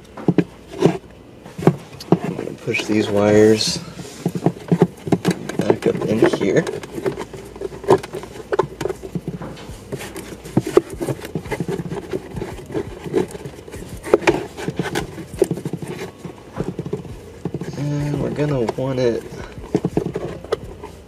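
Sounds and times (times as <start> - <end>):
wiring harness tapping and rustling: 0.0 - 21.0.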